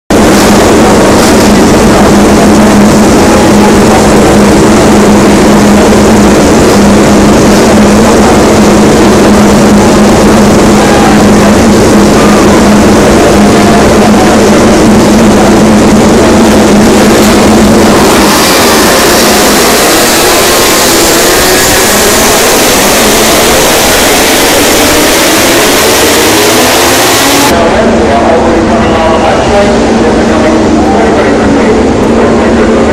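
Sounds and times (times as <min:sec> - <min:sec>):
racing motorcycle engines: 0:00.2 - 0:27.8.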